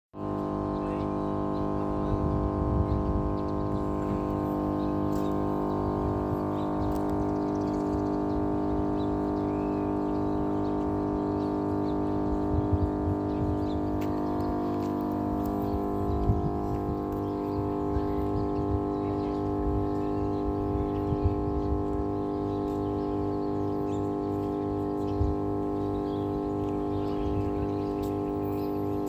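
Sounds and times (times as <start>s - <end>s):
voltage regulator humming: 0.2s - 29.0s.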